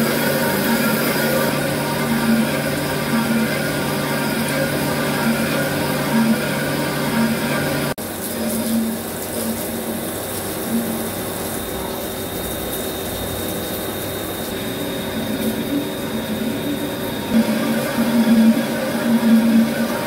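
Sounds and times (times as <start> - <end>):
coolant spray hissing and splashing: 0.0 - 20.0
lathe running hum: 0.0 - 20.0.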